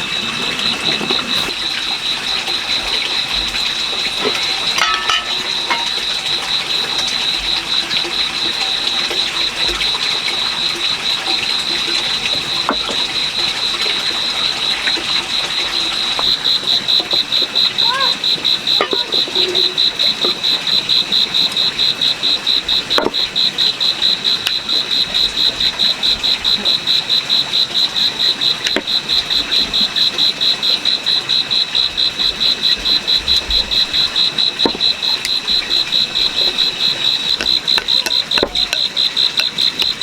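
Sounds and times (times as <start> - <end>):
insect trilling: 0.0 - 40.0.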